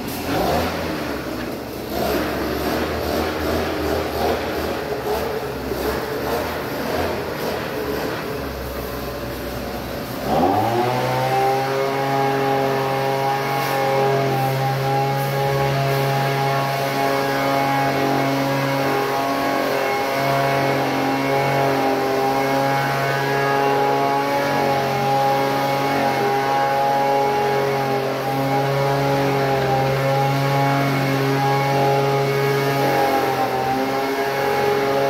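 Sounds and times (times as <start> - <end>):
small engine droning: 0.0 - 35.0.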